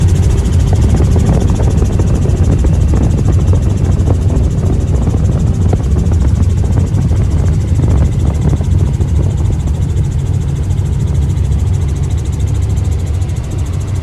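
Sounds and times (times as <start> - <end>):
helicopter rumble: 0.0 - 14.0
rotor blades beating: 0.0 - 14.0.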